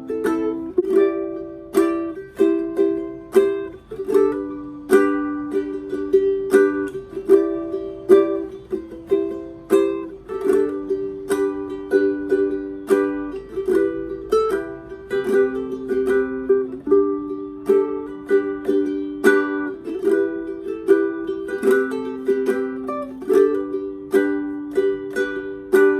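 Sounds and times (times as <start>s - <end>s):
fingerstyle ukulele: 0.0s - 25.9s.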